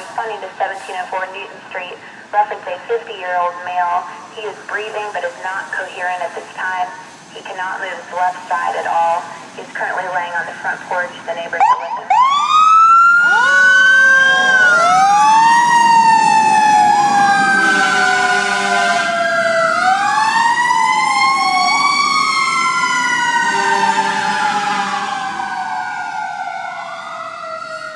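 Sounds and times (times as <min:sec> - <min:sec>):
fire engine sirens wailing: 0:00.0 - 0:27.9.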